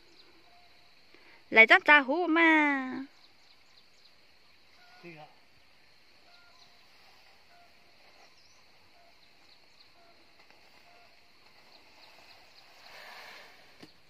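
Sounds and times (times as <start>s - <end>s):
faint bird chirps: 0.0s - 2.0s, 2.7s - 14.0s.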